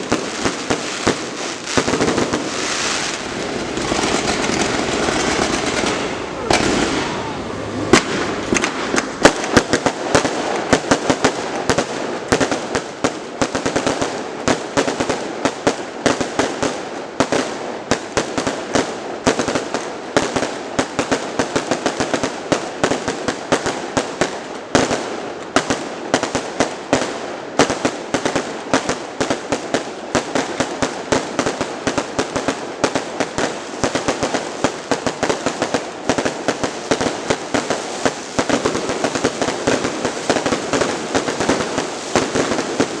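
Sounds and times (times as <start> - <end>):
fireworks bangs: 0.0 - 43.0
fireworks crackle: 0.0 - 43.0.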